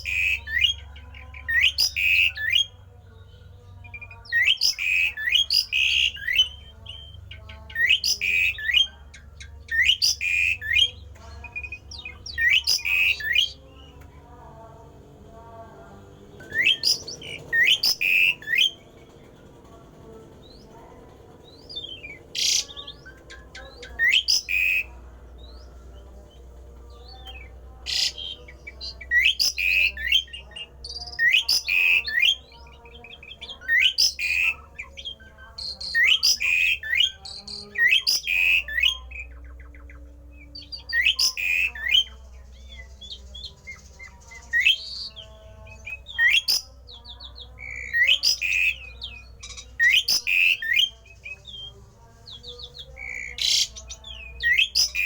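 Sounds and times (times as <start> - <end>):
bird chattering and whistling: 0.0 - 2.8, 3.9 - 14.2, 16.2 - 55.0.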